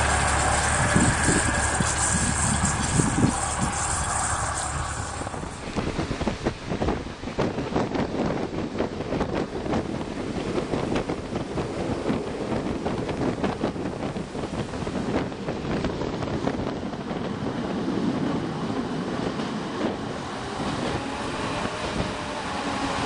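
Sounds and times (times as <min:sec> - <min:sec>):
train wheels rumbling on rails: 0:00.0 - 0:23.0
wind buffeting microphone: 0:00.0 - 0:23.0.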